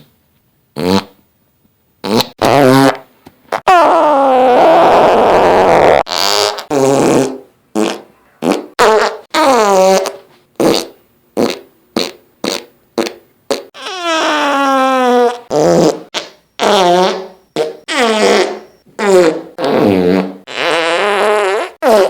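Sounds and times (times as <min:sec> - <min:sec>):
farts: 0:00.8 - 0:01.2, 0:02.0 - 0:22.0.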